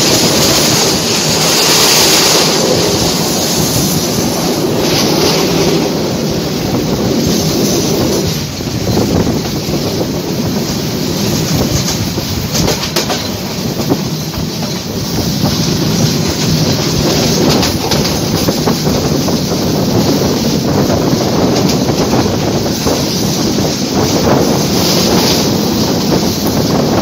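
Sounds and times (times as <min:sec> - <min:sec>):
train wheels rumbling on rails: 0:00.0 - 0:27.0
wheels clicking and clattering: 0:00.0 - 0:27.0.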